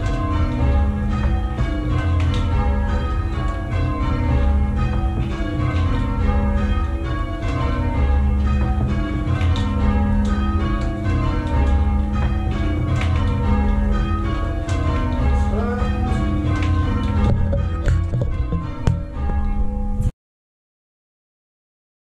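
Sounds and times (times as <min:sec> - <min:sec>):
church bells change ringing: 0:00.0 - 0:20.1.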